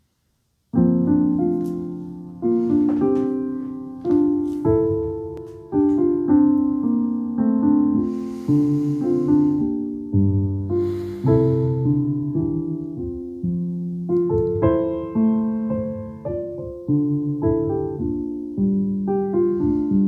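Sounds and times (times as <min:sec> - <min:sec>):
piano playing slow chords: 0:00.8 - 0:20.0.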